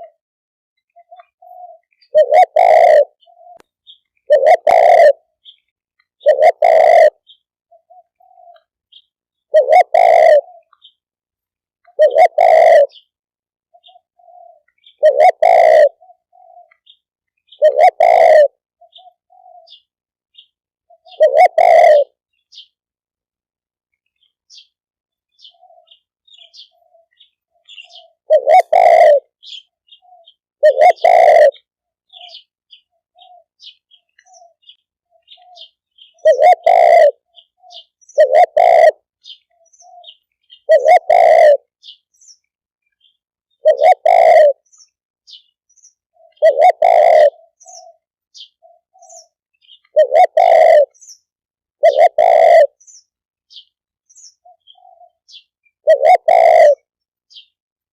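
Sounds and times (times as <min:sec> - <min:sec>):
dove cooing: 0:00.0 - 0:00.2, 0:00.9 - 0:11.0, 0:11.8 - 0:13.1, 0:13.7 - 0:22.7, 0:25.3 - 0:42.0, 0:43.0 - 0:44.7, 0:46.1 - 0:51.2, 0:51.8 - 0:57.5
small birds chirping: 0:00.8 - 0:22.8, 0:23.9 - 0:57.6.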